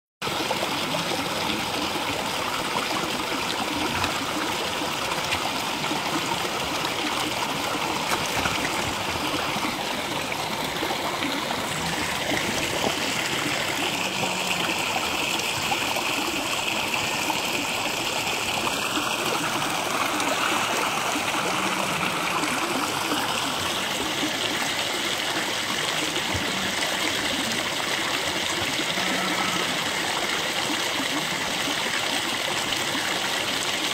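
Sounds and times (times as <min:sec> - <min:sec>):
stream flowing: 0:00.2 - 0:33.9.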